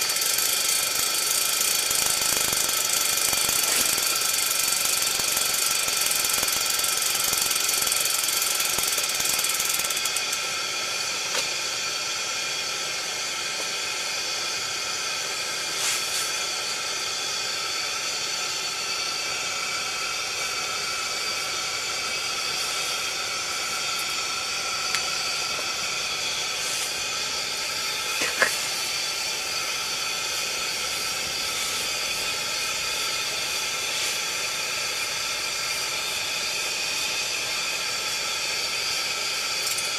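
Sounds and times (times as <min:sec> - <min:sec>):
pressure lantern hissing: 0:00.0 - 0:39.9.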